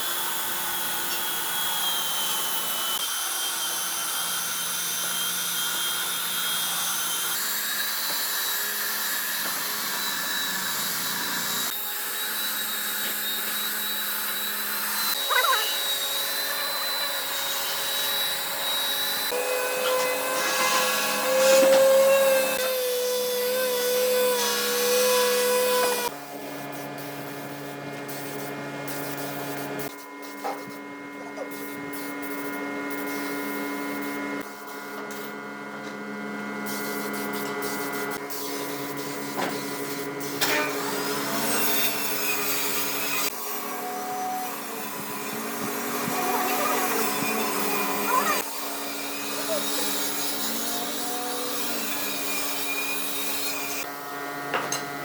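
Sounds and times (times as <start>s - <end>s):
electric power tool motor on wood: 0.0s - 26.7s, 31.8s - 55.0s.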